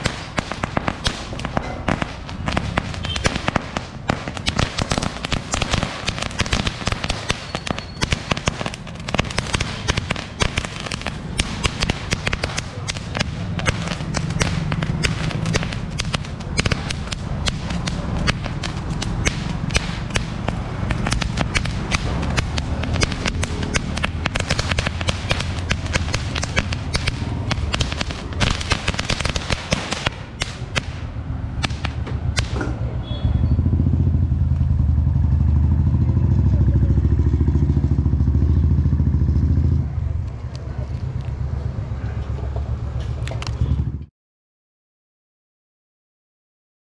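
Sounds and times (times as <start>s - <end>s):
firecrackers banging: 0.0s - 41.7s.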